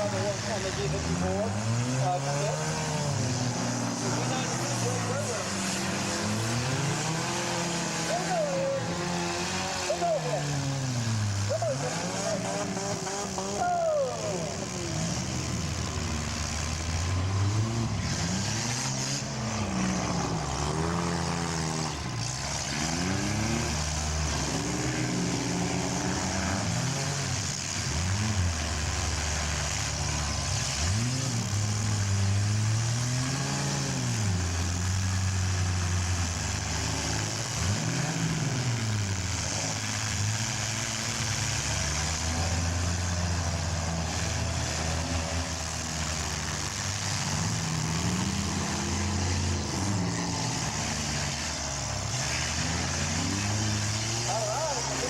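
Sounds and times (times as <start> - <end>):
car engines revving: 0.0 - 55.0
cars ramming: 0.0 - 55.0.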